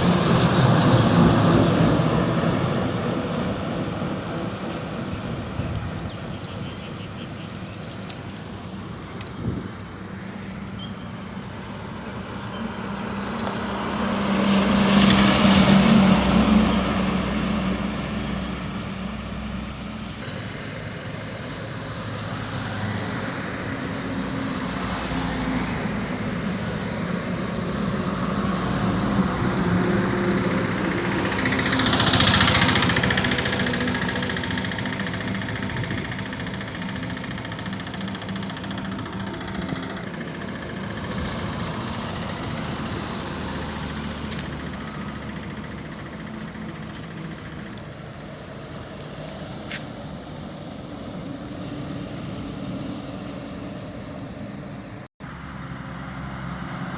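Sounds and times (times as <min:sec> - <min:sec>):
heavy trucks passing: 0:00.0 - 0:56.9
steady highway traffic: 0:00.0 - 0:56.9.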